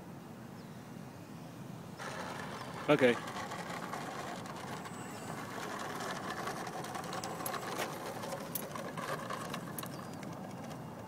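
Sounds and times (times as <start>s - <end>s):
electric motor and propeller whirring: 1.9s - 11.0s.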